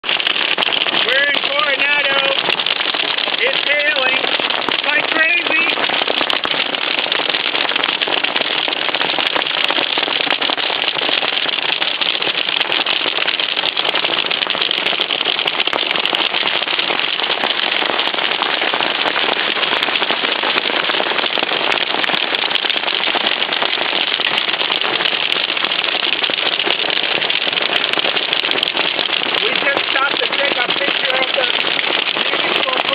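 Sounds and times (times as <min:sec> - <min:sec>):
hail pelting down: 0:00.0 - 0:32.9.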